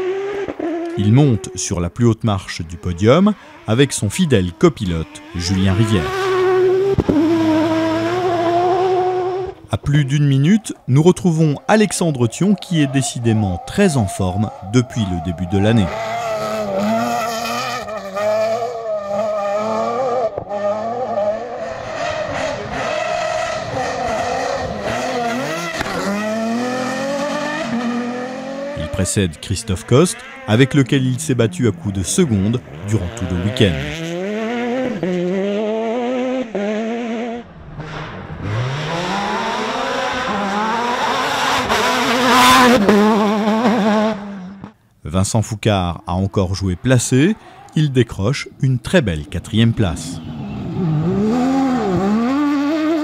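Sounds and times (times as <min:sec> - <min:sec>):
rally buggy engine revving: 0:00.0 - 0:53.0.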